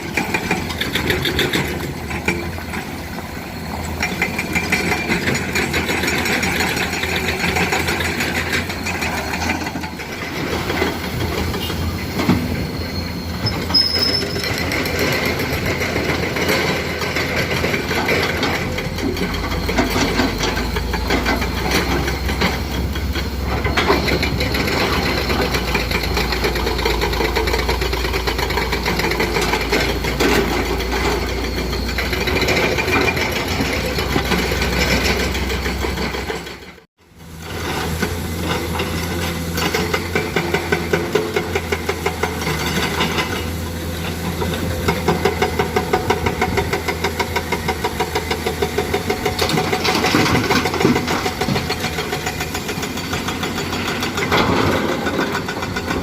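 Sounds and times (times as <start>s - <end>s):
diesel excavator engine under load: 0.0s - 56.0s.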